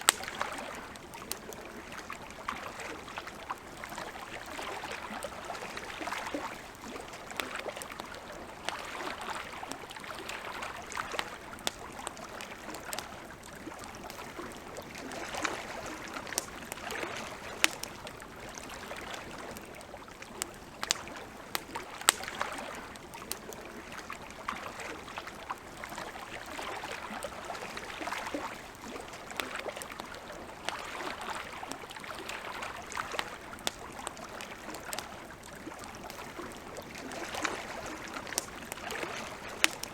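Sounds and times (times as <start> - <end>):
campfire crackling and popping: 0.0 - 39.9
lake water lapping: 0.0 - 39.9.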